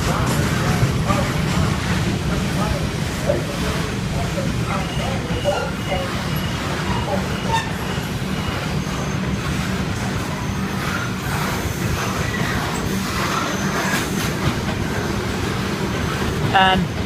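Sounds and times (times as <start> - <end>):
train rolling slowly: 0.0 - 17.0.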